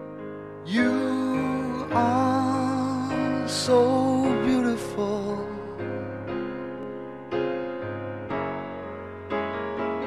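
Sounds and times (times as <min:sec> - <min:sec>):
piano chords ringing: 0:00.0 - 0:10.0.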